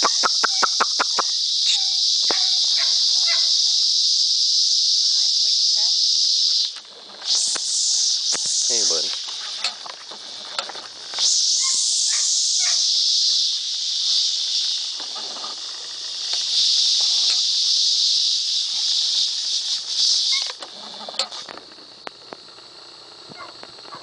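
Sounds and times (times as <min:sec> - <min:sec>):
insect chorus buzzing: 0:00.0 - 0:24.0.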